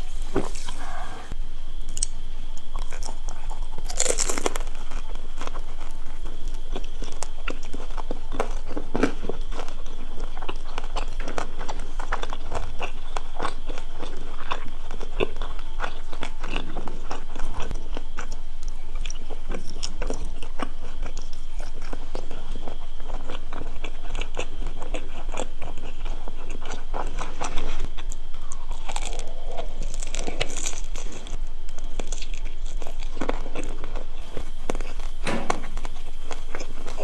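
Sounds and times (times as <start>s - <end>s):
crunching and chewing: 1.8s - 37.0s.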